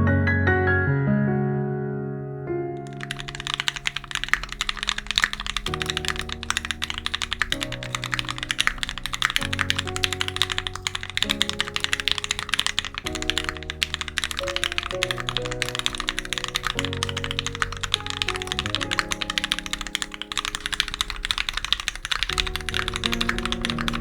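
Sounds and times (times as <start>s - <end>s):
fast mechanical keyboard typing: 2.8s - 24.0s.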